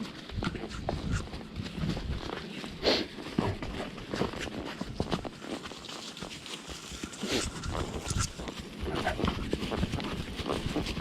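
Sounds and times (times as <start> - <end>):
horse hoofbeats on trail: 0.0 - 11.0.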